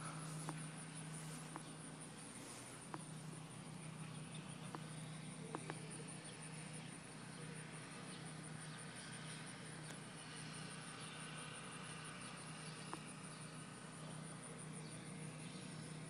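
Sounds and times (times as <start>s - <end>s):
insects trilling: 0.0s - 16.0s
low steady hum: 0.0s - 16.0s.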